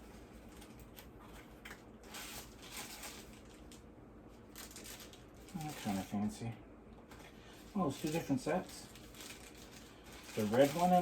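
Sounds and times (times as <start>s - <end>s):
packaging rustling and scraping: 0.0s - 6.2s, 7.1s - 11.0s.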